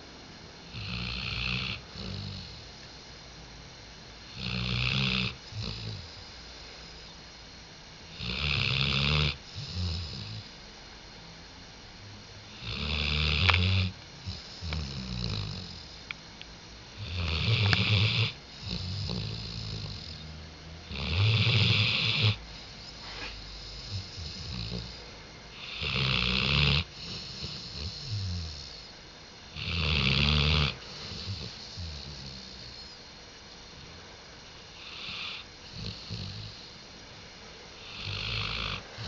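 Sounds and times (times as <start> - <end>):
dog snoring: 0.6 - 3.0, 4.2 - 7.2, 8.0 - 10.6, 12.4 - 16.2, 16.9 - 37.0, 37.8 - 39.0.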